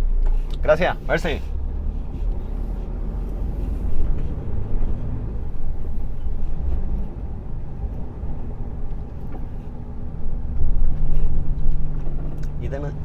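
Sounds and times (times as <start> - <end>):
lorry engine and road noise: 0.0 - 13.0.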